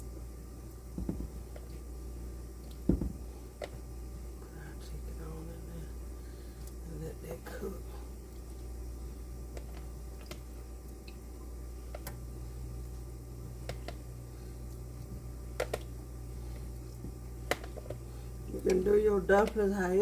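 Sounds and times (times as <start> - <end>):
kitchen hum: 0.0 - 20.0.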